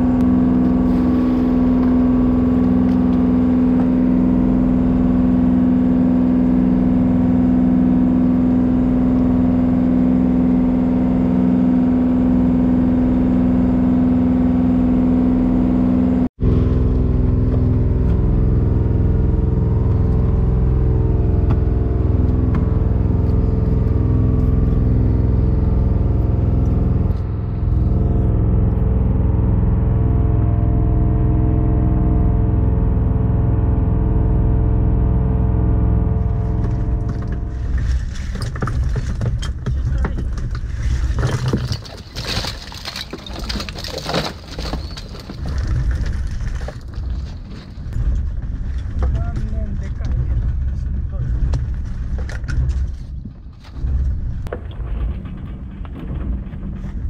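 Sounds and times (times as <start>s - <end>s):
boat engine droning: 0.0s - 53.1s.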